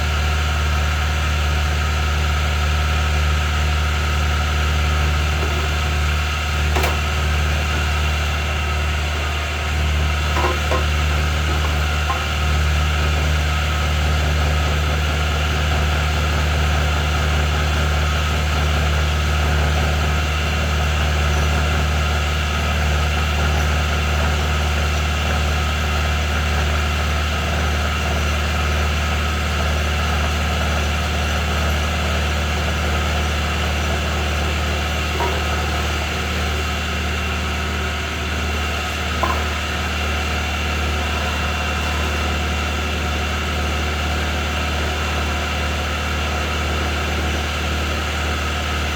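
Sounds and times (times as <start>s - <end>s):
milling machine humming: 1.2s - 48.9s.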